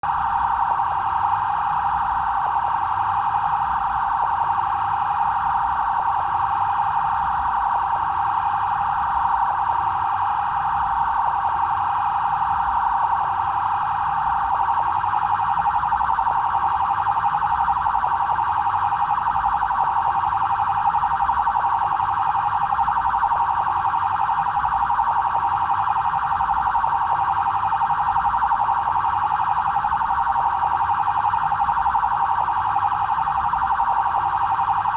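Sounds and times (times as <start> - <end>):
fast-warbling police siren: 0.0 - 34.9.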